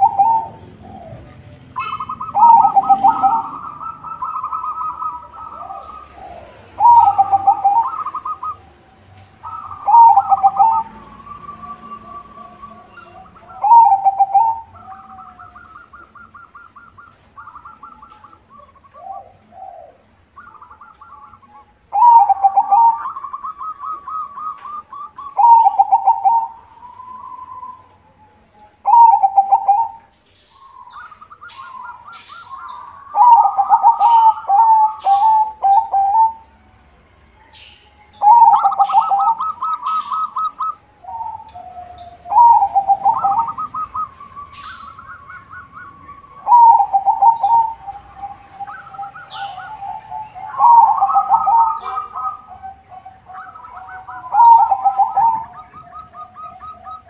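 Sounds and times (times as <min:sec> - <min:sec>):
dove cooing: 0:00.0 - 0:36.6, 0:38.0 - 0:57.0.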